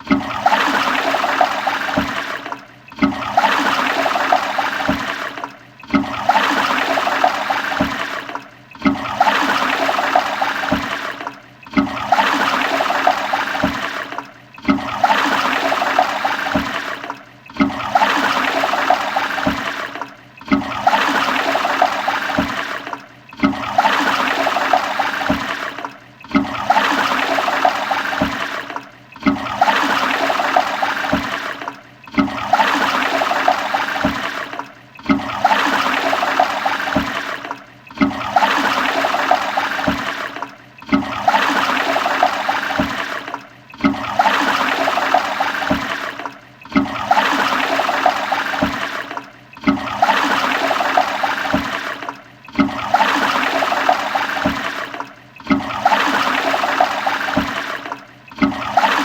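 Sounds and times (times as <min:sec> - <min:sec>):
toilet flushing: 0:00.0 - 0:59.0.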